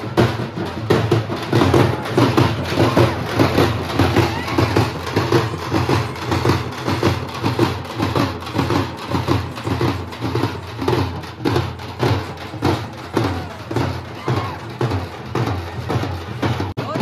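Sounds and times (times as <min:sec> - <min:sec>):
drums beating steady rhythm: 0:00.0 - 0:17.0.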